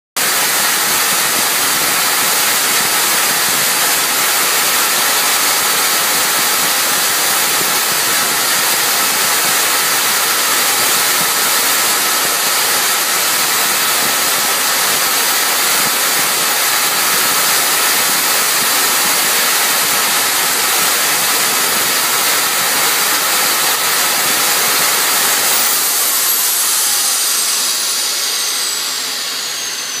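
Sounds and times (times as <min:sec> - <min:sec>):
jet engine air rushing: 0:00.2 - 0:30.0
jet engine high whine: 0:00.2 - 0:30.0.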